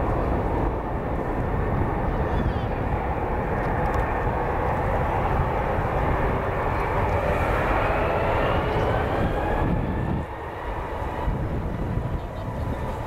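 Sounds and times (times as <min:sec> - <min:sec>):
jet engine rushing with whine: 0:00.0 - 0:13.0.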